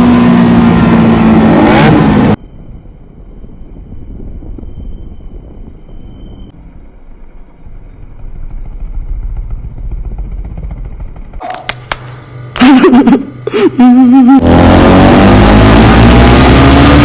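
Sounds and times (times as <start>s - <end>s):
motorcycle engine rumbling and revving: 0.0s - 17.0s.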